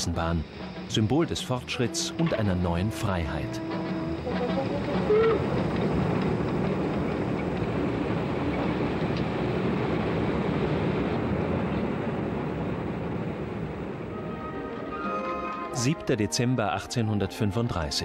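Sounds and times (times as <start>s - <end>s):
steam locomotive rumbling: 0.0s - 17.9s.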